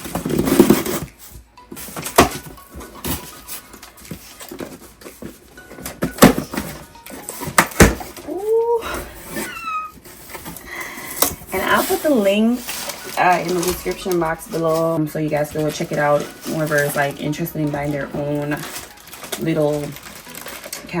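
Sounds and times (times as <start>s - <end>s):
packaging clicks and knocks: 0.0s - 8.3s, 10.1s - 21.0s.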